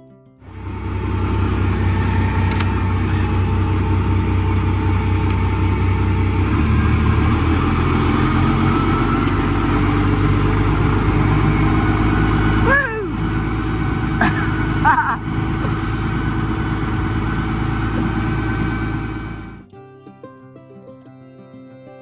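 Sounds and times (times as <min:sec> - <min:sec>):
large vehicle engine revving: 0:00.4 - 0:19.6.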